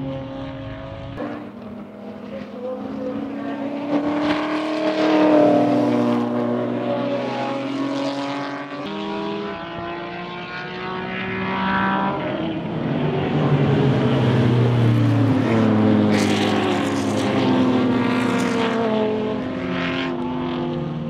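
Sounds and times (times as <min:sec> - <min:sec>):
racing car engines at speed: 0:00.0 - 0:21.0.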